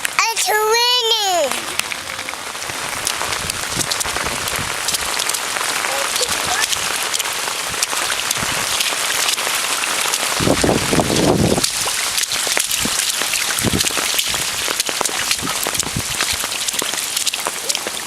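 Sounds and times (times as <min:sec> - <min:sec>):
heavy rain pouring: 0:00.0 - 0:18.0
raindrops ticking: 0:01.0 - 0:18.0.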